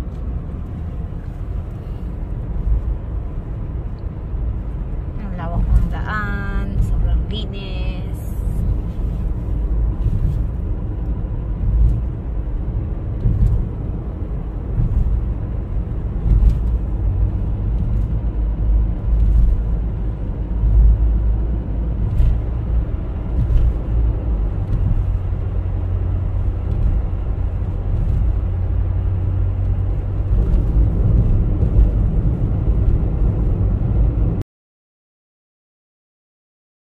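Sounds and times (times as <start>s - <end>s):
road and engine rumble in car: 0.0s - 34.4s.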